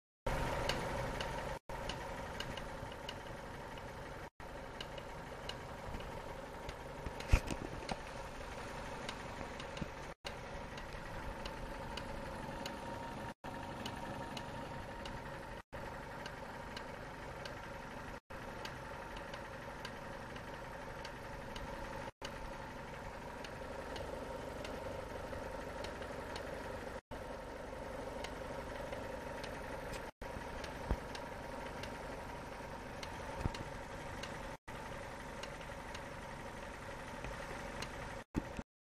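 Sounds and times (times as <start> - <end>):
car engine idling: 0.3 - 38.6
faint irregular clicks: 0.3 - 38.6.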